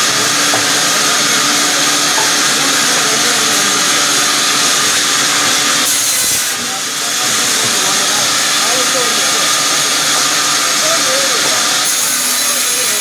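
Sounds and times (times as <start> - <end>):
sawmill saw whirring: 0.0 - 13.0.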